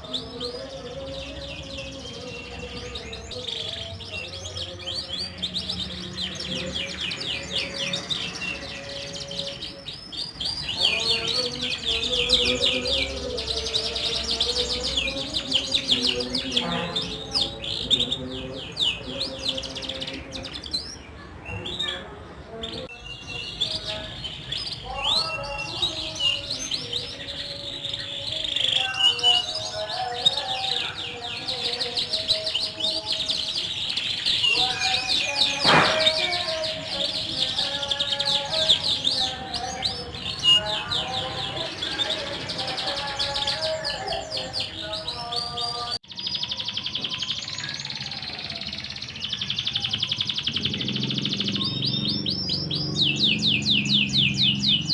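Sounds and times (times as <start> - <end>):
canaries singing trills: 0.0 - 54.9.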